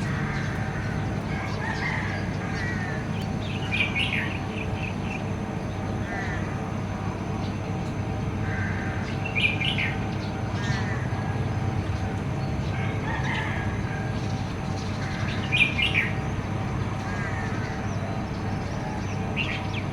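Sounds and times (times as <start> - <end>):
low background hum: 0.0 - 19.9.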